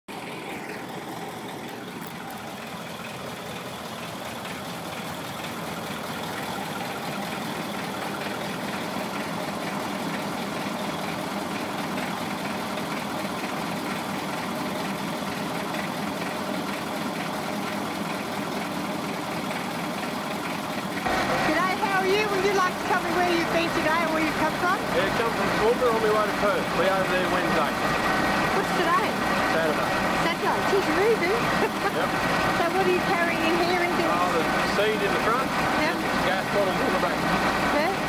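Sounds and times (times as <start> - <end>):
diesel truck engine idling: 0.1 - 38.0.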